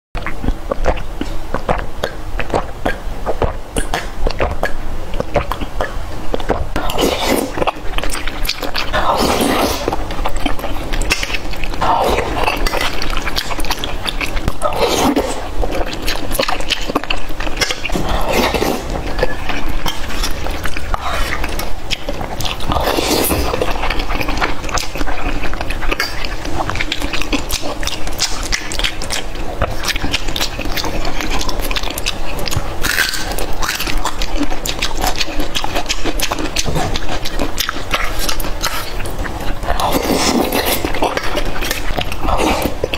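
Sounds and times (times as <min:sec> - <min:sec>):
wet chewing and slurping: 0:00.2 - 0:42.9.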